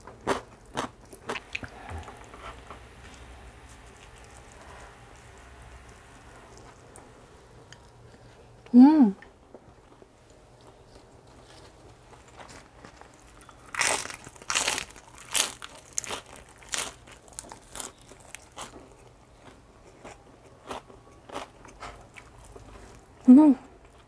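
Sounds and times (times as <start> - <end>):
crunchy chewing of lettuce: 0.0 - 8.6, 9.8 - 24.0.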